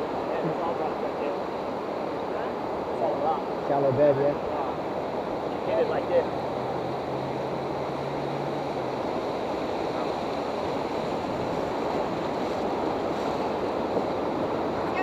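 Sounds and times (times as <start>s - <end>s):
whitewater rapids rushing: 0.0s - 15.0s.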